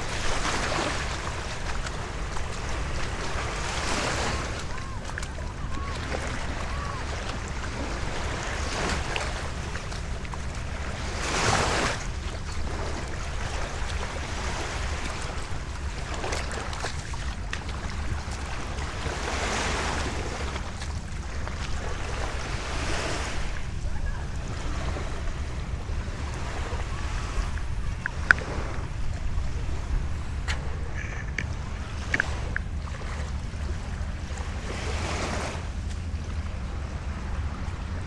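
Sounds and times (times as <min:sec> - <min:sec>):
waves washing onto sandy shore: 0:00.0 - 0:38.0
wind rumble on microphone: 0:00.0 - 0:38.0.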